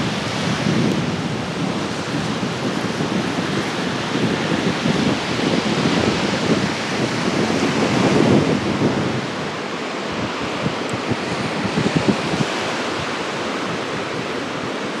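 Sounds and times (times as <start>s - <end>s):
small waves breaking on sand: 0.0s - 15.0s
wind on microphone: 0.0s - 15.0s.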